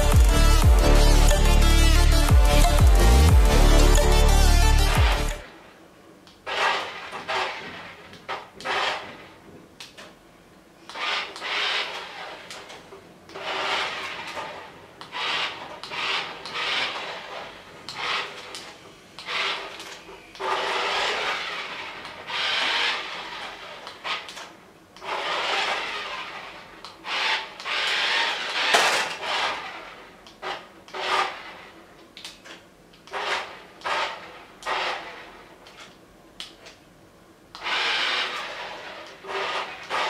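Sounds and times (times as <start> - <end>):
toy vehicle scraping and grinding: 0.0 - 5.5, 6.4 - 10.2, 10.8 - 36.8, 37.6 - 40.0.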